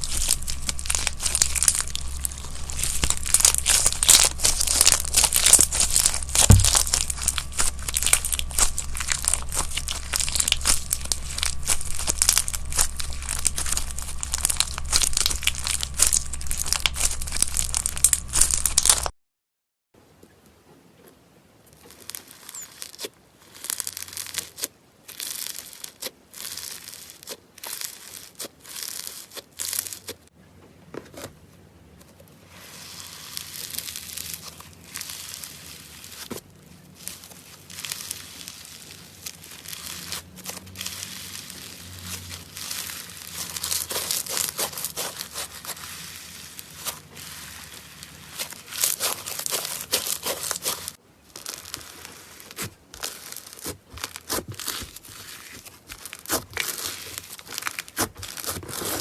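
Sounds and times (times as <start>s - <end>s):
slime crackling and crinkling: 0.0s - 19.1s, 21.6s - 30.3s, 32.0s - 59.0s.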